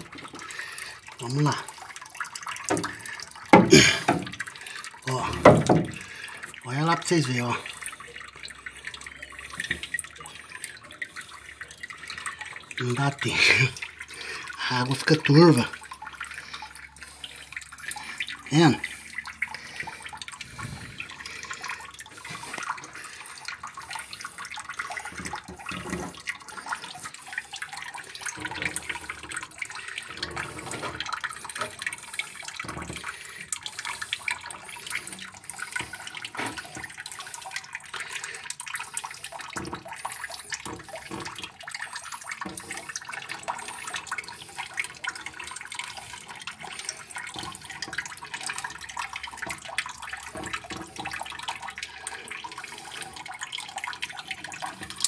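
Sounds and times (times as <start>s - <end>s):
water splashing and gurgling: 0.0s - 55.0s.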